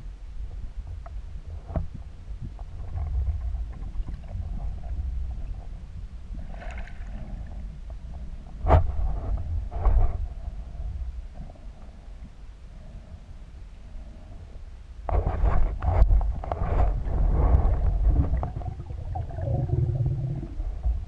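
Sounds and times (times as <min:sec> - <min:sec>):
muffled underwater rumble: 0:00.0 - 0:21.0.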